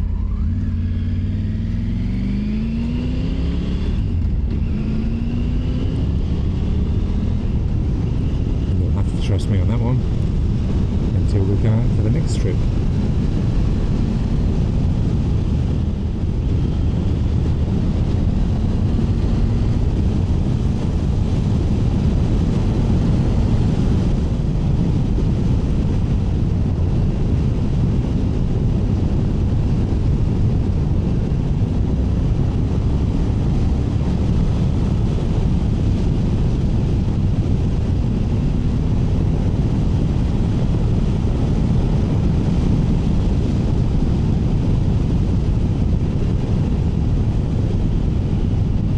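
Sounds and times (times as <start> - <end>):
motorcycle engine running: 0.0 - 48.9
wind rush on microphone: 0.0 - 48.9.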